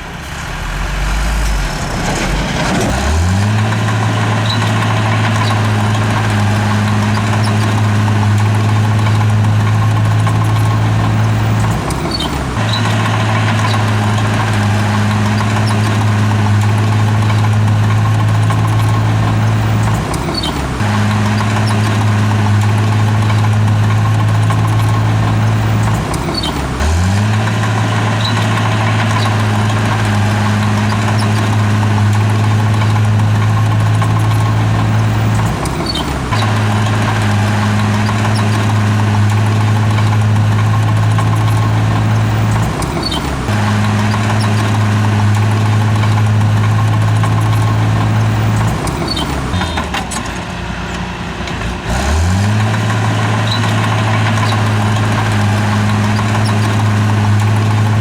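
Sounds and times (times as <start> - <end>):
heavy machine diesel engine running: 0.0 - 58.0.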